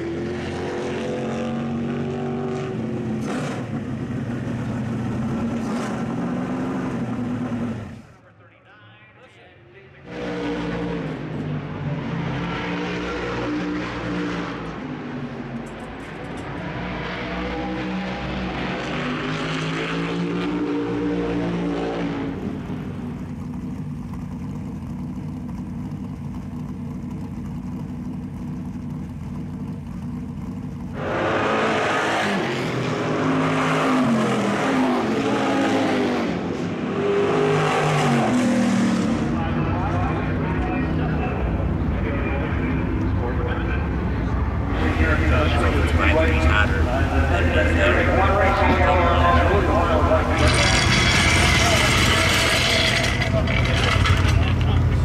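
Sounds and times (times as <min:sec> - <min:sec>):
race car engines revving: 0:00.0 - 0:08.2, 0:09.6 - 0:55.0.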